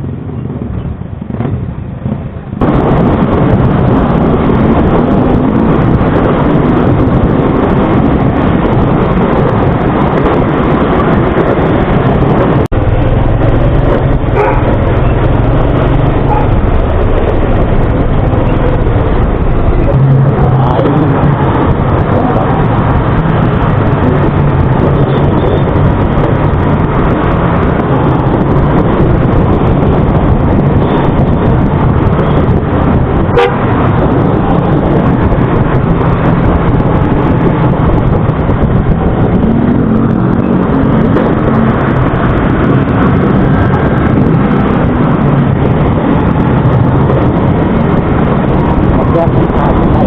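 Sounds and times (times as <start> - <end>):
vehicle engine and road noise: 0.0 - 50.0.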